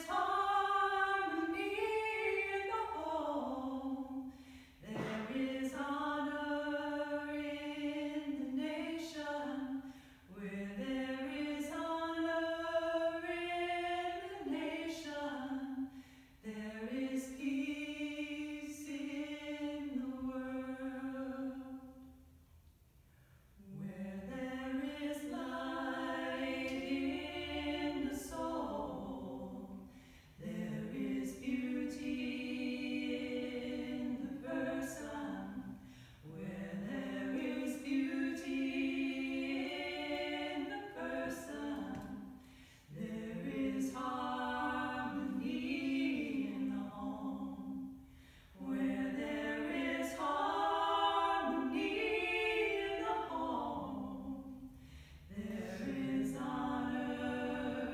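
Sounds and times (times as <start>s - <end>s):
women singing unaccompanied duet: 0.0s - 22.1s, 23.6s - 54.7s, 55.3s - 57.9s.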